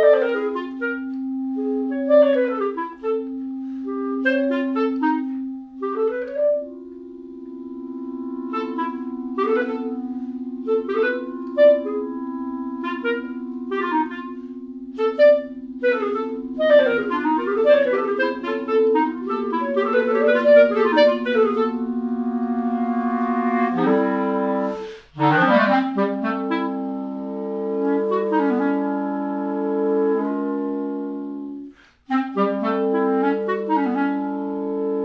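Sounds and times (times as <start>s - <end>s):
clarinet chirping figures: 0.0s - 35.0s
long-held low tone: 0.0s - 35.0s.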